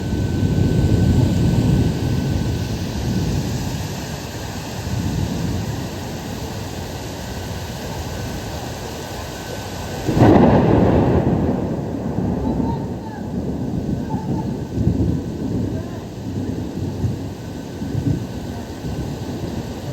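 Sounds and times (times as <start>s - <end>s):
loud thunderclap: 0.0s - 7.6s, 9.9s - 19.9s
rain: 0.0s - 19.9s
thunder rumbling: 0.0s - 19.9s.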